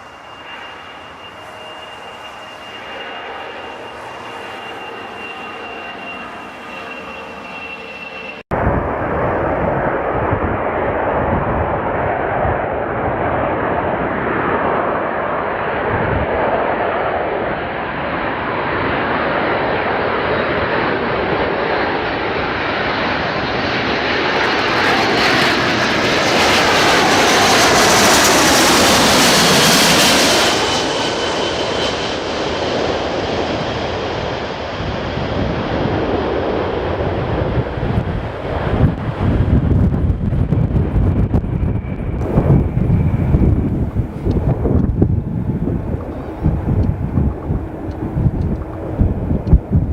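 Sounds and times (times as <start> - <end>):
jet airliner passing: 0.0 - 49.9.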